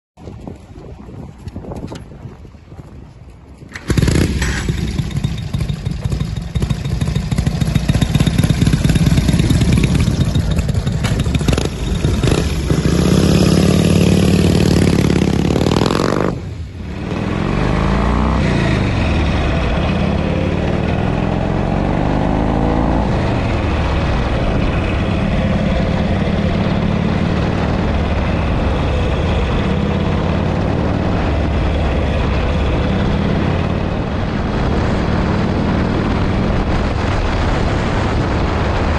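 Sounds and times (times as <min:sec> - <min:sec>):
motorcycle engine revving: 0:03.7 - 0:38.7.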